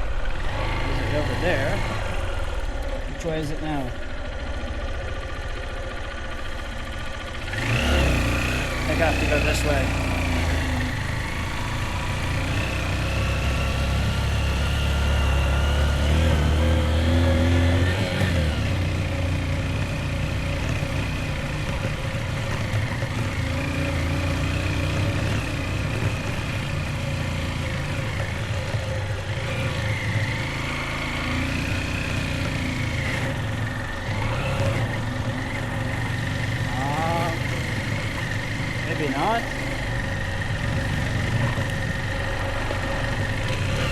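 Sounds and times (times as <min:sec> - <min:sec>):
motorbike engine running: 0:00.0 - 0:43.9.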